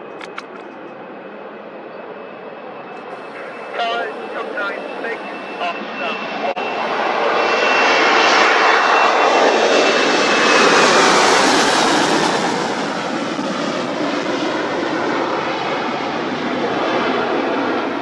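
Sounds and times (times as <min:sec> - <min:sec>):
airliner engines rushing: 0:00.0 - 0:18.0
faint high engine whine: 0:00.0 - 0:18.0.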